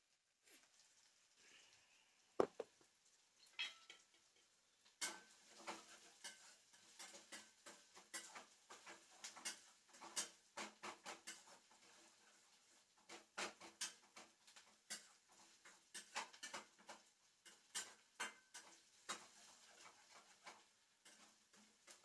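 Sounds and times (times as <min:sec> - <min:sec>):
hot oil crackling in a pan: 0:00.0 - 0:22.0.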